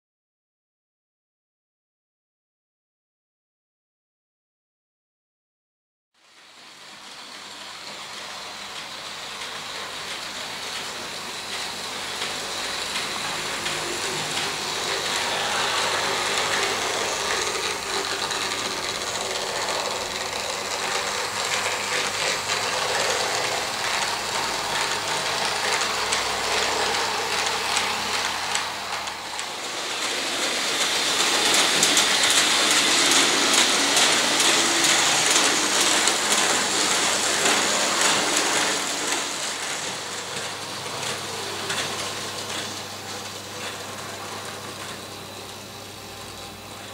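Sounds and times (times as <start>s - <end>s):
model train motors whirring: 6.3s - 46.9s.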